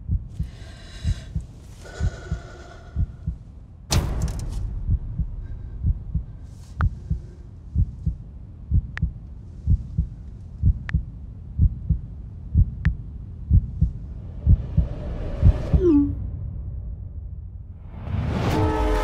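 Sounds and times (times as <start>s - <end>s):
low heartbeat-like thump: 0.0s - 18.0s.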